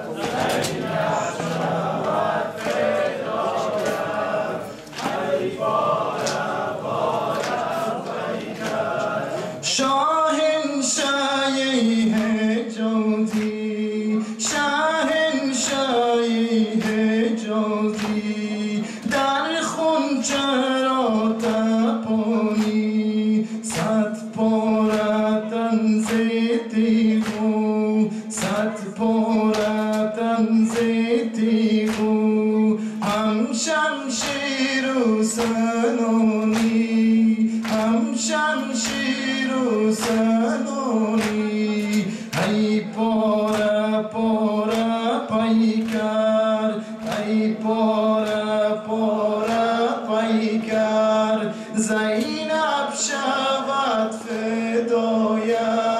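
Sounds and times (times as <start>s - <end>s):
man chanting a lament: 0.0s - 55.9s.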